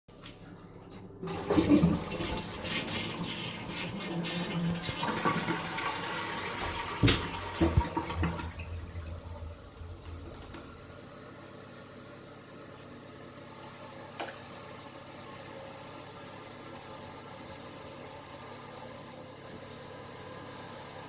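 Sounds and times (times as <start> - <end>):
toilet flushing: 0.2 - 21.0.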